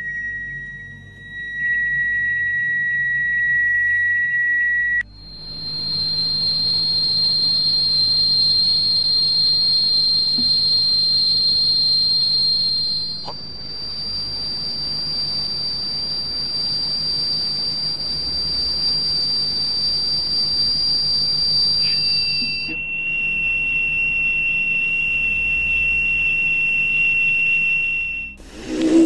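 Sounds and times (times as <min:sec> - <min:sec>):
high-pitched test tone: 0:00.0 - 0:29.0.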